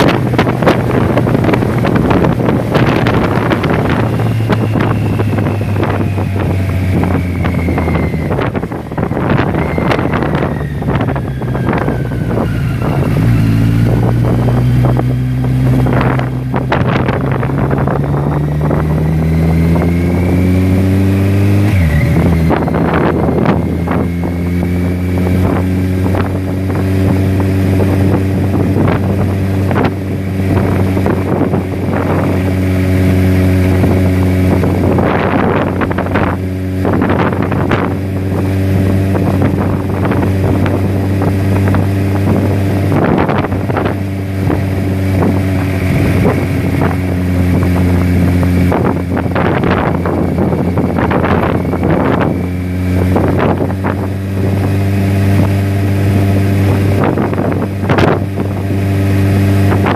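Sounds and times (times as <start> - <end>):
motor droning: 0.0 - 59.9.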